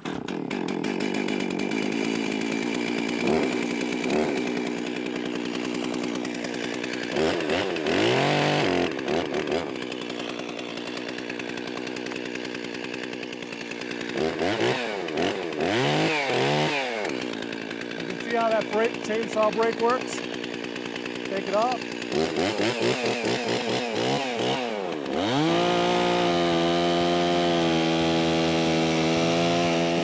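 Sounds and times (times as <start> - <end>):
chainsaw engine revving: 0.0 - 30.0.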